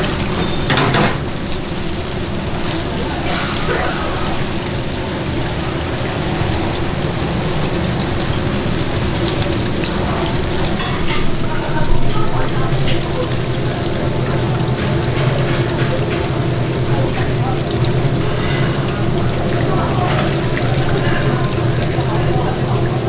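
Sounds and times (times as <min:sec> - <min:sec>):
ribs sizzling in fryer oil: 0:00.0 - 0:23.0.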